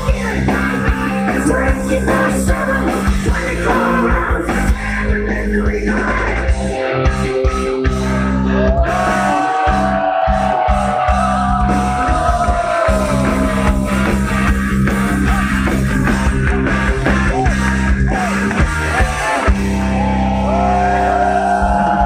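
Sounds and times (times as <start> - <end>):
bass notes: 0.0 - 22.0
distorted electric guitar lead: 0.0 - 22.0
drum kit: 0.0 - 22.0.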